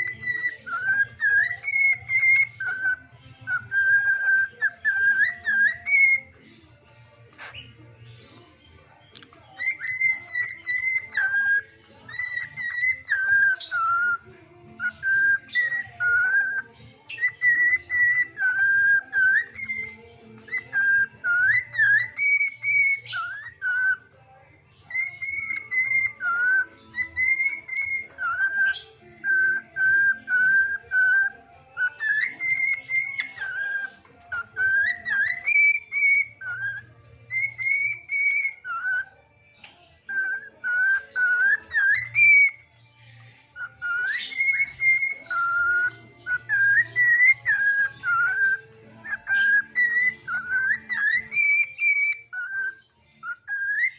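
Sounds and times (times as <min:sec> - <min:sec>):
bird whistling melody: 0:00.0 - 0:53.9.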